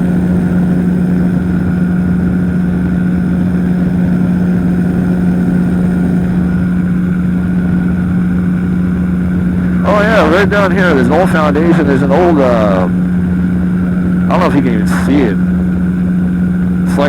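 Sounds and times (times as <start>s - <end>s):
engine and propeller drone: 0.0s - 17.0s.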